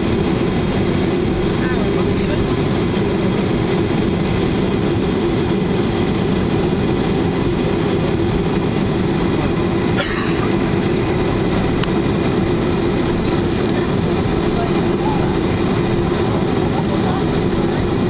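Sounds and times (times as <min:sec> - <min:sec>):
aircraft engines humming: 0:00.0 - 0:18.0
aircraft rolling rumble: 0:00.0 - 0:18.0.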